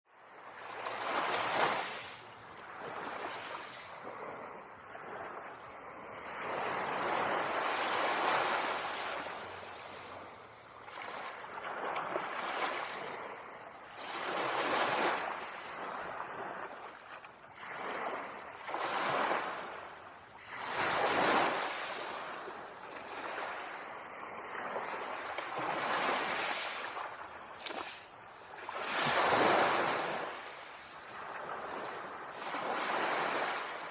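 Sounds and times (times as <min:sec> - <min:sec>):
ocean waves breaking: 0:00.2 - 0:33.9.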